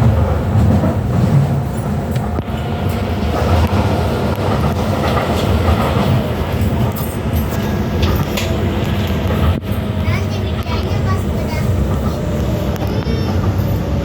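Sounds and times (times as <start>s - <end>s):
train wheels rumbling on rails: 0.0s - 14.0s
wheels clicking over rail joints: 0.0s - 14.0s.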